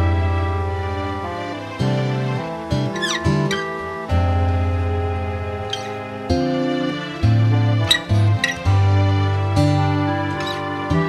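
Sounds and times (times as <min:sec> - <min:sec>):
melodic music with strong bass: 0:00.0 - 0:11.0.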